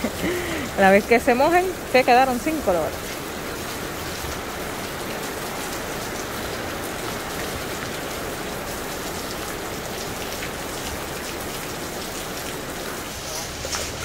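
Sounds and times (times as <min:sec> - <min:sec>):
steady downpour of rain: 0:00.0 - 0:14.0.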